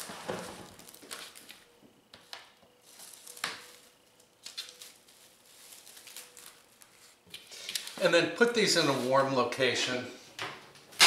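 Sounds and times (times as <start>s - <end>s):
cling film rustling and crinkling: 0.0s - 9.4s.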